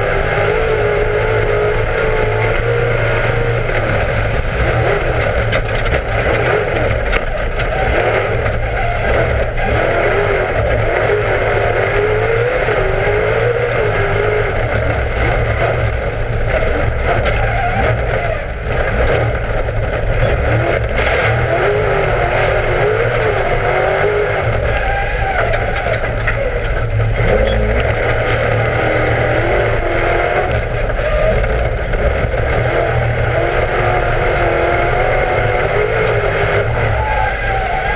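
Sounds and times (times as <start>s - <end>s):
heavy low rumble: 0.0s - 37.9s
race car engine revving: 0.0s - 37.9s.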